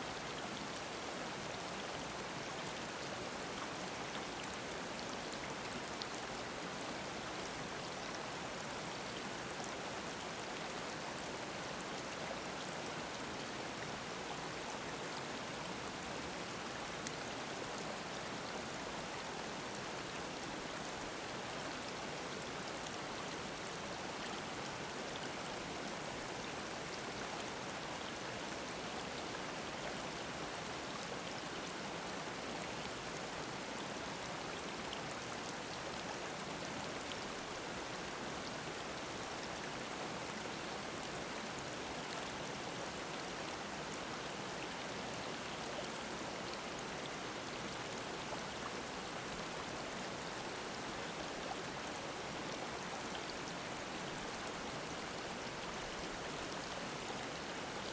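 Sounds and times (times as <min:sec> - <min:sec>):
mountain stream babbling: 0:00.0 - 0:57.9.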